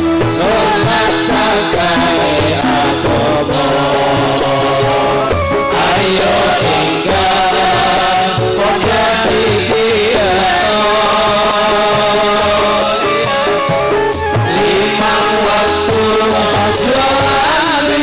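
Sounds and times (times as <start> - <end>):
drum beat: 0.0 - 18.0
keyboard: 0.0 - 18.0
men singing into microphones: 0.0 - 18.0.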